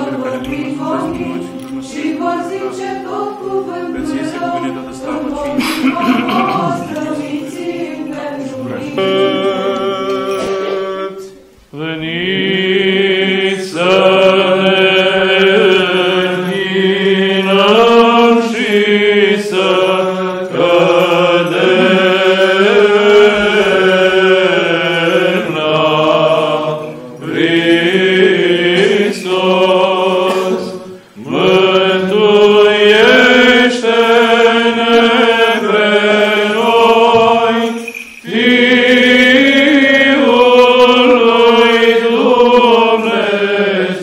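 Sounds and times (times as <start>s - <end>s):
choir chanting a cappella: 0.0s - 44.0s.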